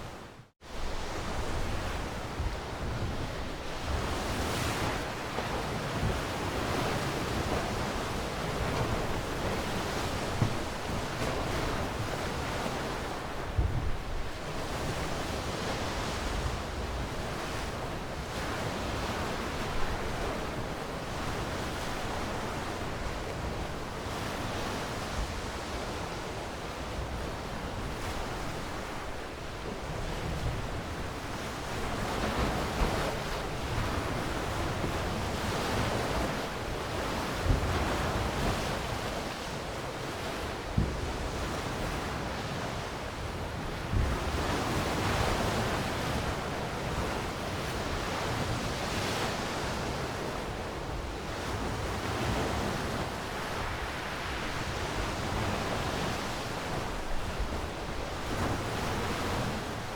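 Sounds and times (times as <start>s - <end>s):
sea waves on shore: 0.0s - 59.9s.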